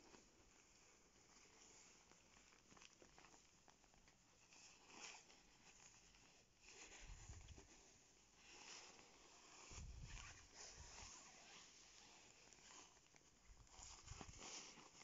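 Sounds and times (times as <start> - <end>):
nylon jacket rustling: 0.0 - 15.0.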